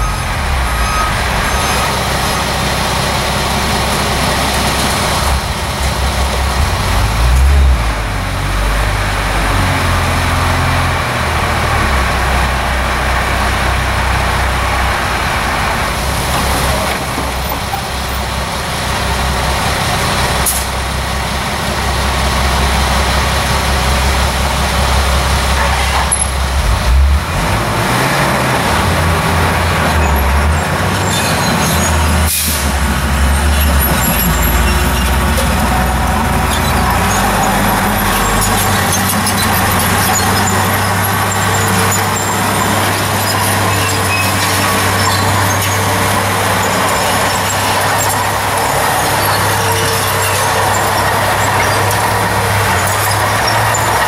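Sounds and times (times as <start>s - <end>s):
diesel dump truck engine: 0.0s - 54.0s.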